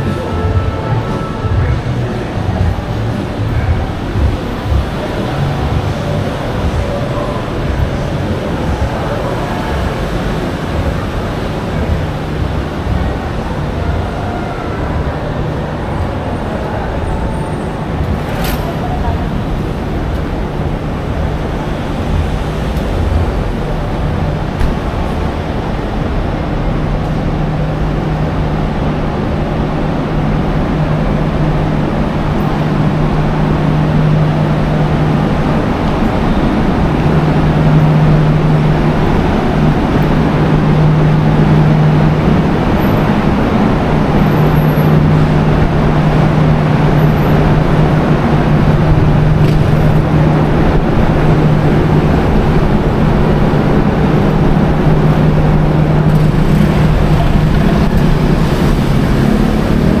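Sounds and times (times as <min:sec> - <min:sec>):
low engine hum: 0:00.0 - 1:00.0
road traffic noise: 0:00.0 - 1:00.0.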